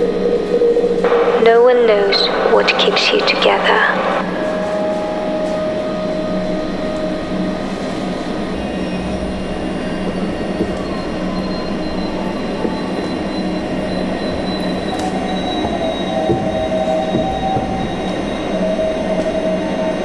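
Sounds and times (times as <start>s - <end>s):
faint high whining tones: 0.0s - 20.0s
low hum: 0.0s - 20.0s
steady rumbling noise: 0.0s - 20.0s.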